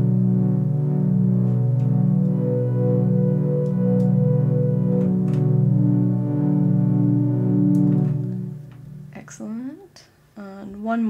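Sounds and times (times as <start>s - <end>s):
synthesizer ambient pad chords: 0.0s - 9.2s.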